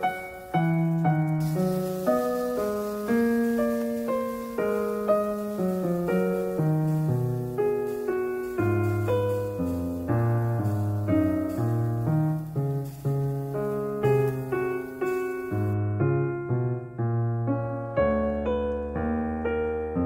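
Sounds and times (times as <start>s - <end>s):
background piano music: 0.0s - 20.0s.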